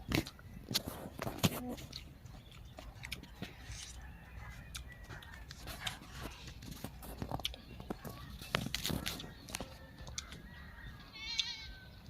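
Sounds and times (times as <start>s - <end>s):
crunching raw vegetables: 0.0s - 12.0s.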